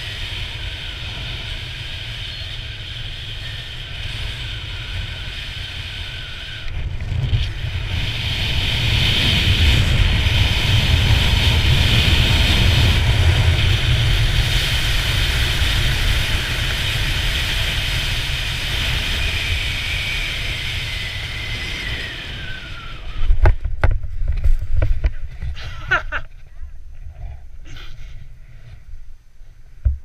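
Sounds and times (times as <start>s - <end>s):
wind buffeting microphone: 0.0s - 27.6s.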